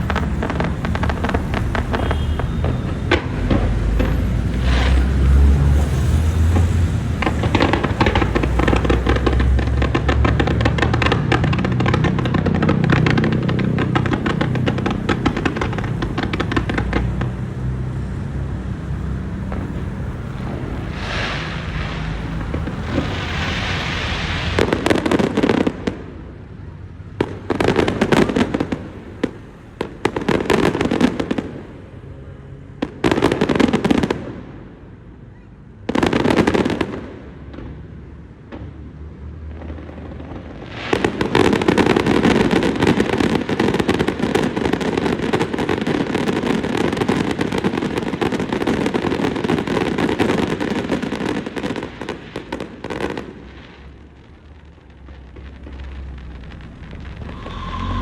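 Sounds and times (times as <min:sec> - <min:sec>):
fireworks crackling bangs: 0:00.0 - 0:34.8, 0:35.8 - 0:58.0.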